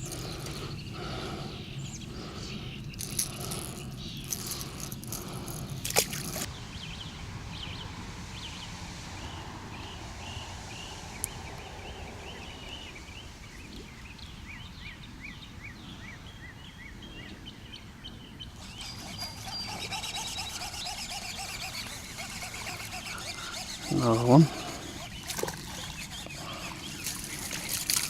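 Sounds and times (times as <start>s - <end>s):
songbirds chirping and trilling: 0.0s - 28.0s.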